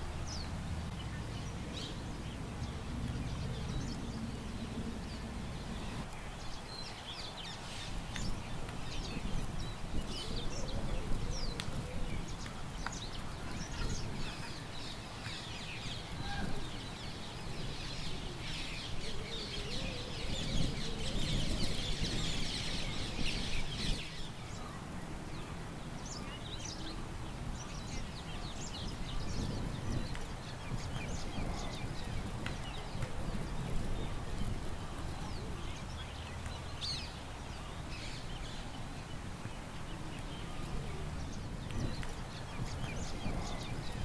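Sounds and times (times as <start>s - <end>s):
low rumble of wind: 0.0s - 44.0s
small birds chirping: 0.2s - 44.0s.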